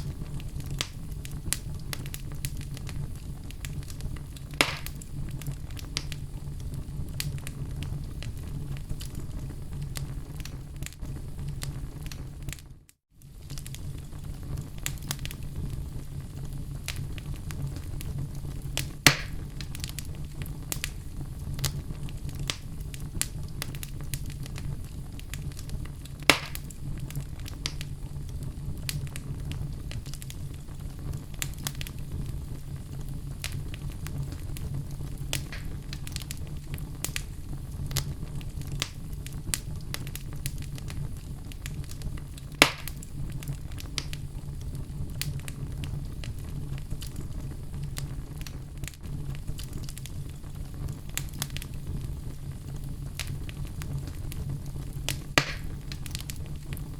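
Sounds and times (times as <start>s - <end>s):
fire pops: 0.0s - 56.9s
fireplace fire crackling: 0.0s - 56.9s
low rumble of flames: 0.0s - 56.9s.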